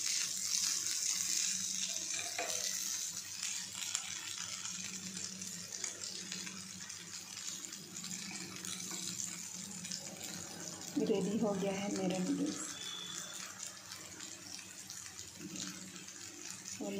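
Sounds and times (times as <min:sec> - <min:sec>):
noodles sizzling in frying pan: 0:00.0 - 0:16.9.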